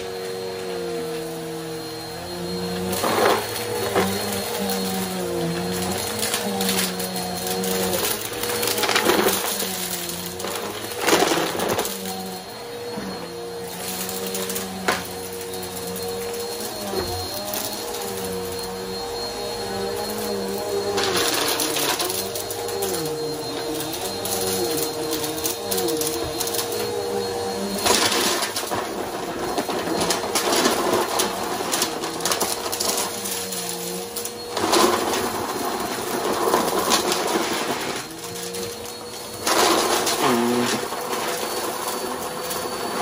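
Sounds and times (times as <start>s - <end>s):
vacuum cleaner motor whine: 0.0s - 43.0s
debris rattling in vacuum: 0.2s - 43.0s.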